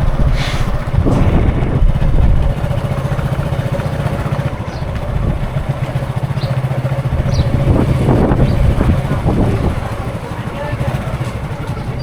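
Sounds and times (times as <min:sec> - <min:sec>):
road traffic: 0:00.0 - 0:12.0
vehicle engine running: 0:00.0 - 0:12.0.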